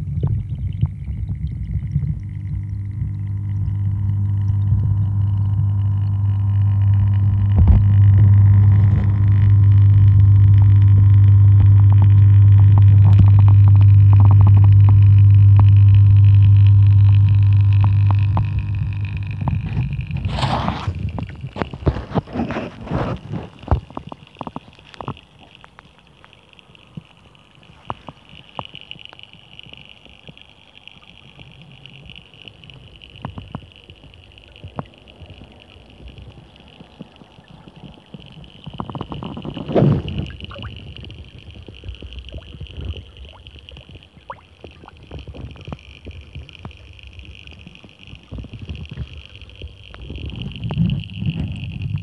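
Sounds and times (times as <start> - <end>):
low steady hum: 0.0 - 52.0
small underwater clicks and knocks: 0.0 - 52.0.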